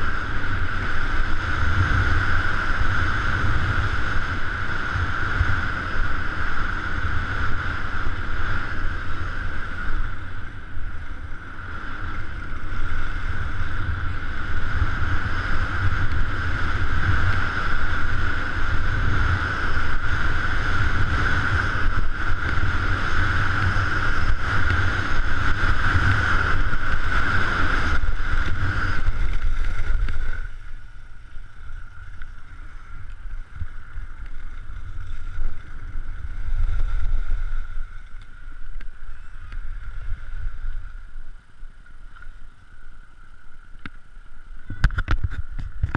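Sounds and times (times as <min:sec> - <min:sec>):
skis sliding over snow: 0:00.0 - 0:45.9.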